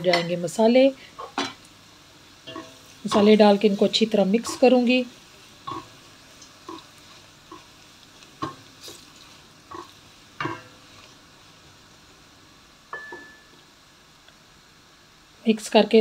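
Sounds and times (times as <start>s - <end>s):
faint sizzle of oil: 0.0s - 16.0s.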